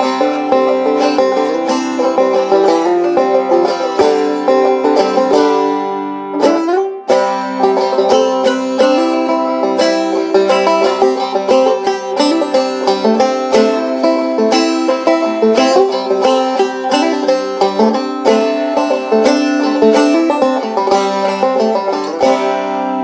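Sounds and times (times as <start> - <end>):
string-band music with banjo picking: 0.0 - 23.0.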